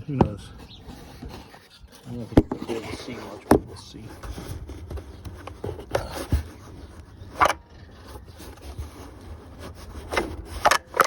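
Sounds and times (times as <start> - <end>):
engine scraping and rubbing: 0.0 - 11.0.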